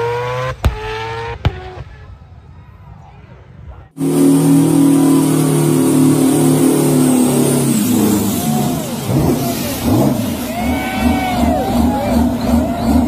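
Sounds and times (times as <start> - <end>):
truck engine revving high: 0.0 - 1.7, 4.0 - 13.0.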